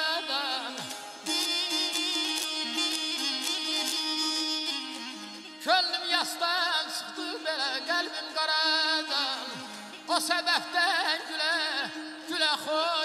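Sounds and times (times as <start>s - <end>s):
man singing ornamented melody: 0.0s - 13.0s
strummed lute: 0.0s - 13.0s.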